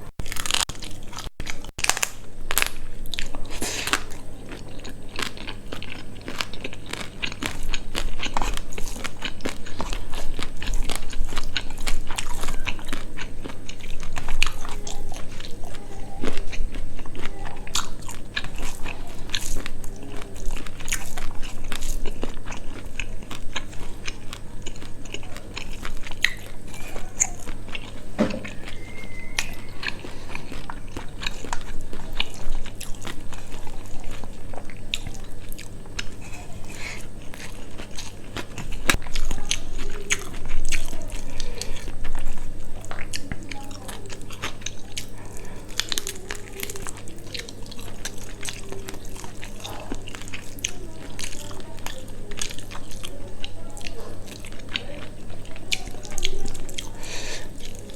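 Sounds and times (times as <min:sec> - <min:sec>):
chewing and crunching food: 0:00.0 - 0:57.9.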